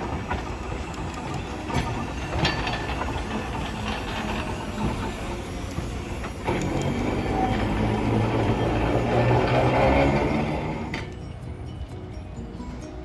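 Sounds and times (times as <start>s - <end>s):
streetcar motor hum: 0.0s - 13.0s
streetcar wheels on rails: 0.0s - 13.0s.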